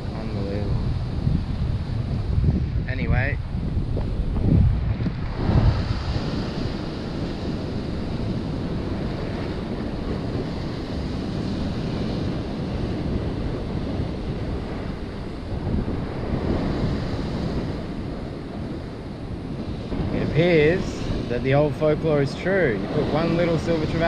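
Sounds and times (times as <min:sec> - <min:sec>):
ocean surf breaking on rocks: 0:00.0 - 0:24.0
wind buffeting microphone: 0:00.0 - 0:24.0.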